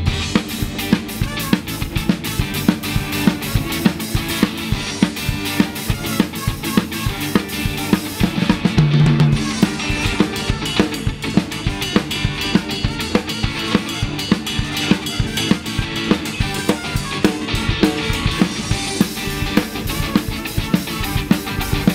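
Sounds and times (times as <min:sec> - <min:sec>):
live ska band playing: 0:00.0 - 0:21.9.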